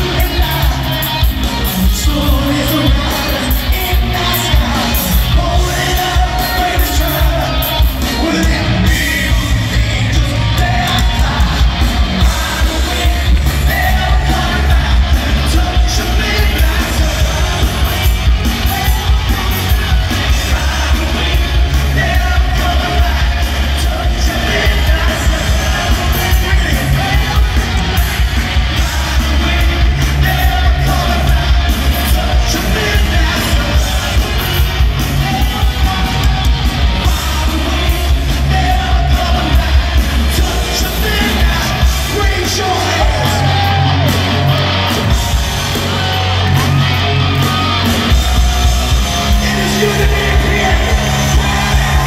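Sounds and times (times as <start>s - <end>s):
audience yelling: 0.0s - 52.0s
live hard rock band: 0.0s - 52.0s
man singing lead vocals: 0.0s - 52.0s.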